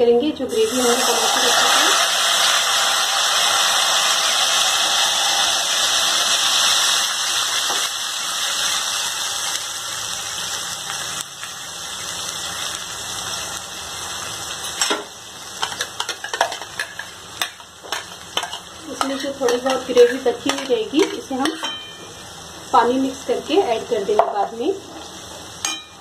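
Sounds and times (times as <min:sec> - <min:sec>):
paste sizzling in hot oil: 0:00.5 - 0:26.0.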